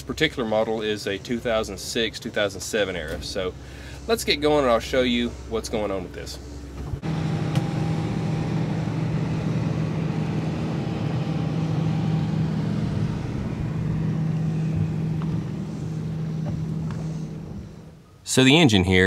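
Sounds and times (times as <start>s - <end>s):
boat engine running: 0.0s - 18.2s
wind: 0.0s - 19.0s.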